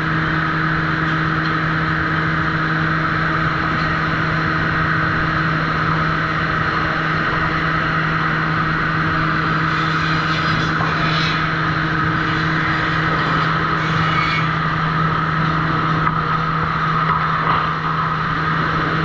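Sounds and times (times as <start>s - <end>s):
sawmill machinery humming: 0.0s - 17.1s.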